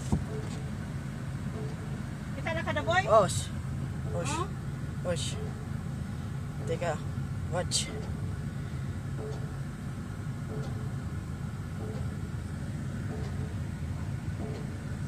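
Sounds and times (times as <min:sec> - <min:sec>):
low machine rumble: 0:00.0 - 0:15.0.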